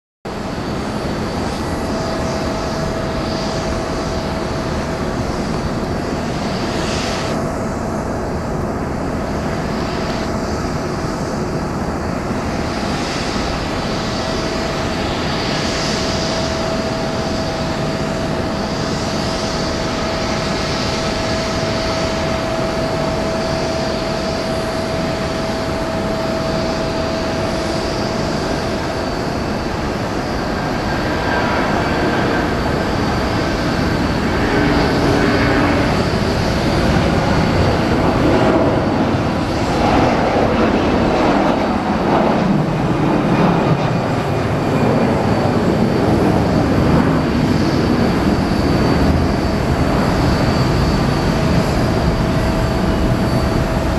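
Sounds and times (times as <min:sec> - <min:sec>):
jet engines rushing and whining: 0:00.3 - 0:53.9.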